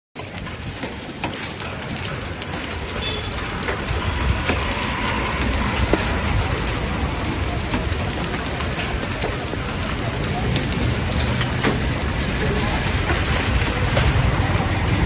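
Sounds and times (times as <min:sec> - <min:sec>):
hailstones ticking: 0:00.2 - 0:15.0
heavy rain: 0:00.2 - 0:15.0.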